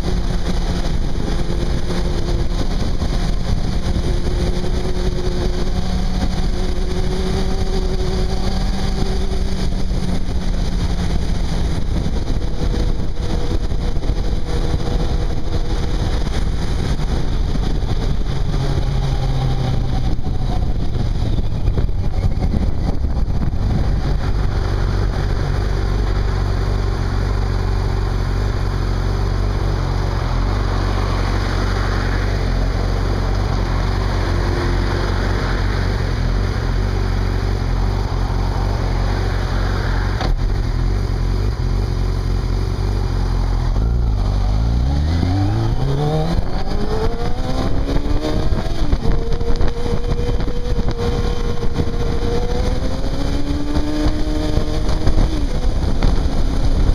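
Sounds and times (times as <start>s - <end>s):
motorcycle engine running: 0.0s - 56.9s
wind rushing over microphone: 0.0s - 56.9s.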